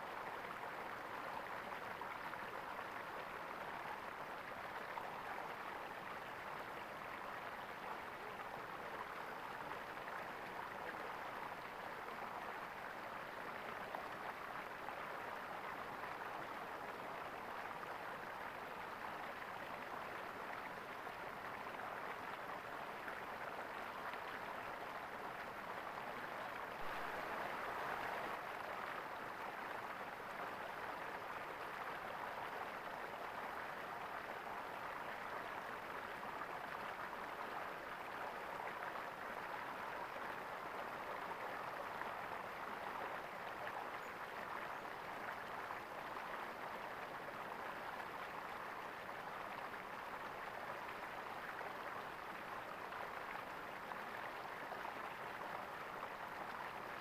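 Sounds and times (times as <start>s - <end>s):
stream water gurgling: 0.0s - 57.0s.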